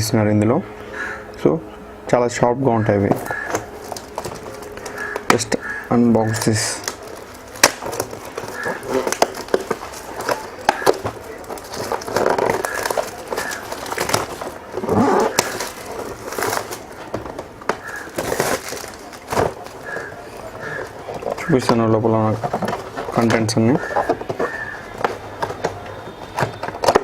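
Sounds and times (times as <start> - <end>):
packaging rustling and clicking: 3.1 - 27.0.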